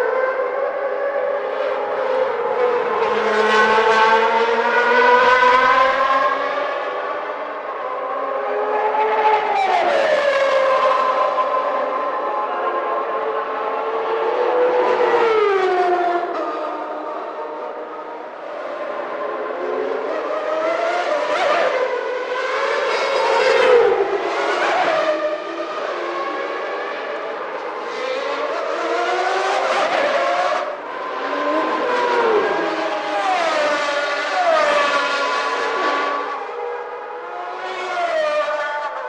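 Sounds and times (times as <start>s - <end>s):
racing cars passing by: 0.0s - 39.0s.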